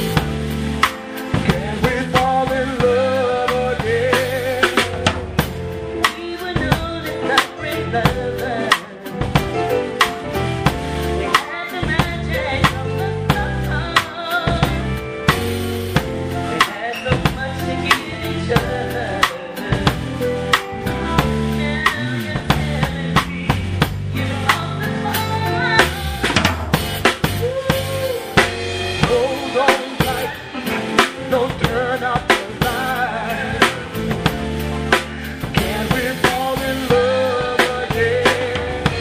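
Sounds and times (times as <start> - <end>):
bass line: 0.0 - 39.0
drum kit beat: 0.0 - 39.0
person singing: 1.1 - 10.3, 11.2 - 15.4, 16.3 - 39.0.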